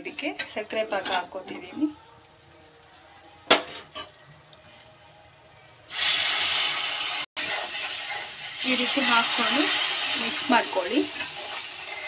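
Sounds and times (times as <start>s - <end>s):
syrup hissing and sizzling: 0.6s - 12.0s.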